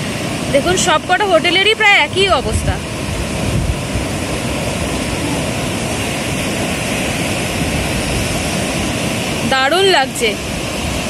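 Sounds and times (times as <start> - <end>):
heavy sea surf roaring: 0.0 - 11.0
wind rumbling on microphone: 0.0 - 11.0.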